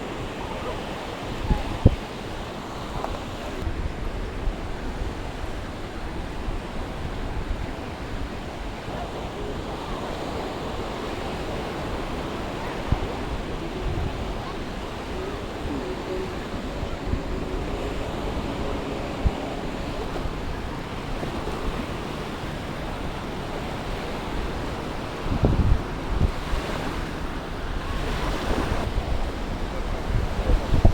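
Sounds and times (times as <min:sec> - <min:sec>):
surf washing onto beach: 0:00.0 - 0:30.9
wind buffeting microphone: 0:00.0 - 0:30.9.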